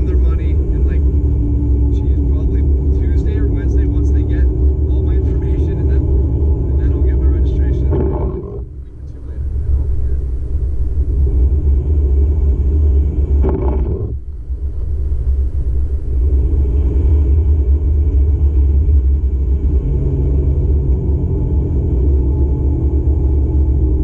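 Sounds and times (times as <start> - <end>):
car cabin rumble: 0.0 - 24.0.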